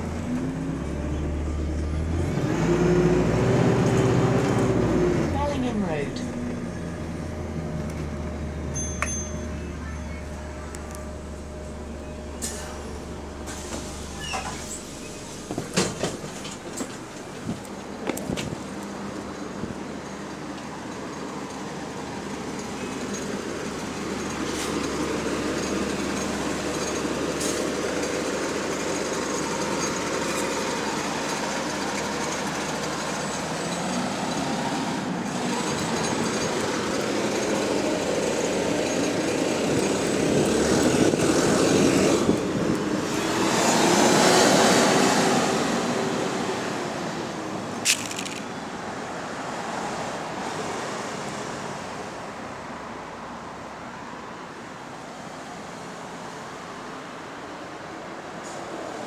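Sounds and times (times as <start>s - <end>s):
bus engine running: 0.0s - 53.6s.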